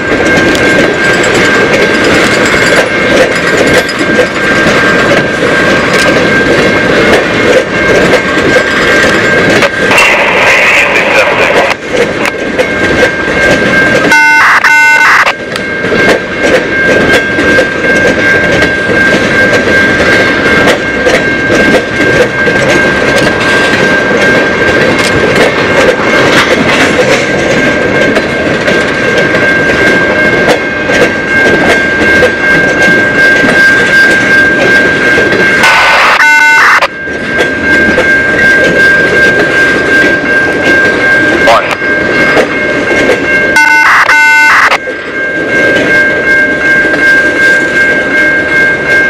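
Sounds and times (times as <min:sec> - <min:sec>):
train wheels clattering on rails: 0:00.0 - 0:49.0.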